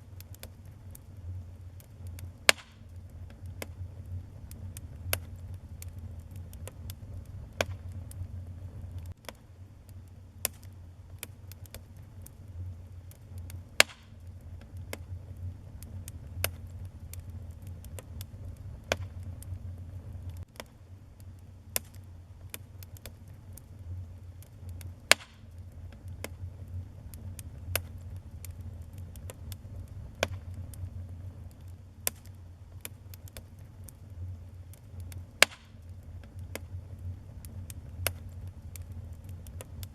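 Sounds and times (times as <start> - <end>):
fire crackling and popping: 0.0 - 39.9
wood fire rumbling: 0.0 - 39.9.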